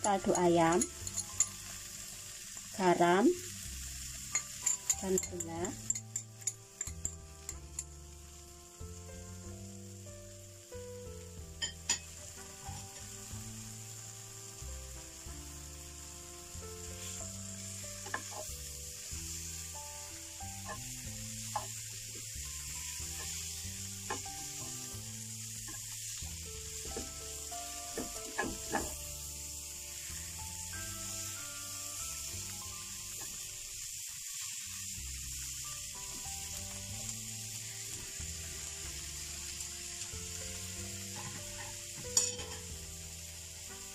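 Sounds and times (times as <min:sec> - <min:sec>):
greens sizzling in frying pan: 0:00.0 - 0:43.9.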